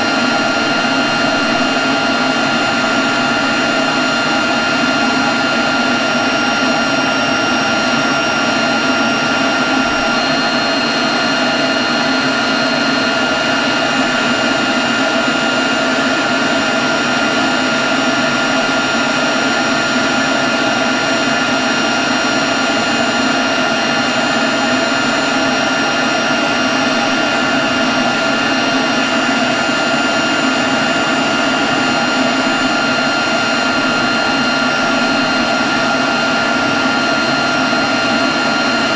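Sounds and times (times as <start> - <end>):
leaf blower running: 0.0 - 38.9.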